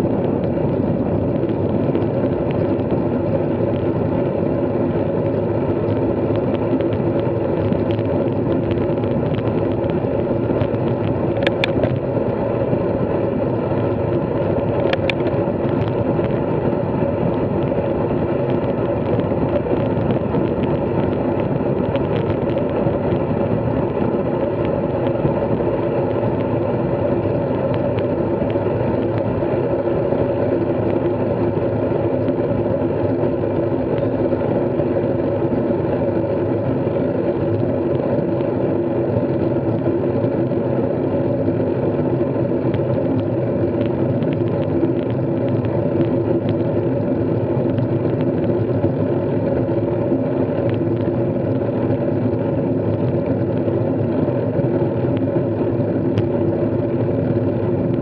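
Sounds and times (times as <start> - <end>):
bike riding noise: 0.0 - 58.0.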